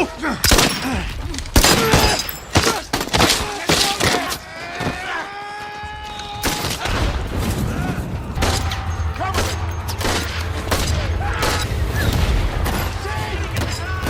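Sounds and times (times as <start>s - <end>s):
people shouting: 0.0s - 14.0s
gunshots: 0.4s - 4.4s, 6.4s - 14.0s.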